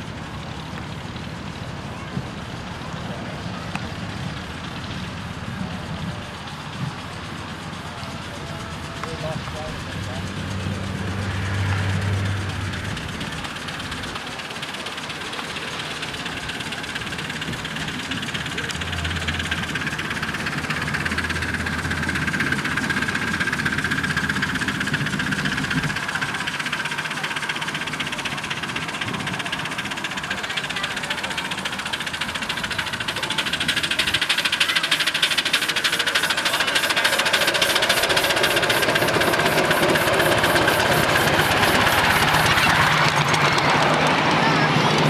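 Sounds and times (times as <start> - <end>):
miniature locomotive running: 0.0 - 45.0.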